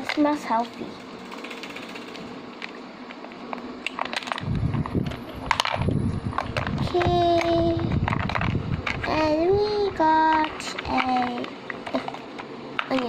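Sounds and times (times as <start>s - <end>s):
low rumbling handling noise: 1.8s - 13.0s.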